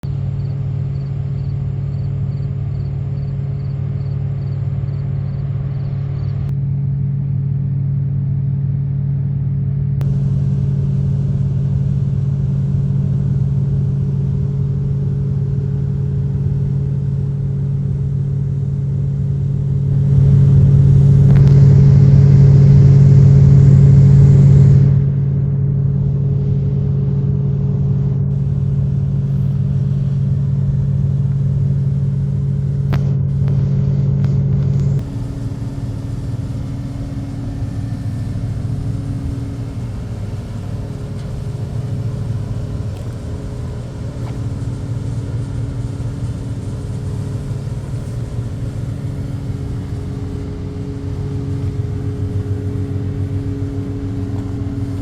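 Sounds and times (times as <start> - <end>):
truck diesel engine rumbling: 0.0 - 55.0.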